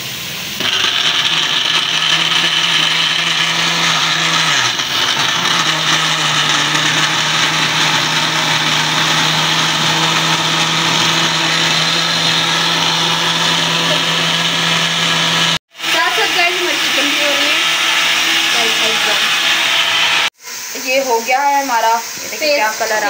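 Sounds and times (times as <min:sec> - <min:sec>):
blender motor grinding: 0:00.6 - 0:20.4.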